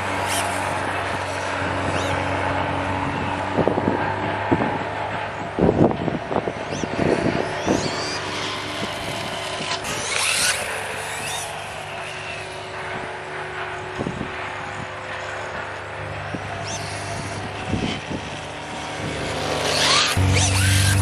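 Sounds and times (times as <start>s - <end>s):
electric motor whining: 0.0s - 21.0s
wind buffeting microphone: 0.0s - 21.0s.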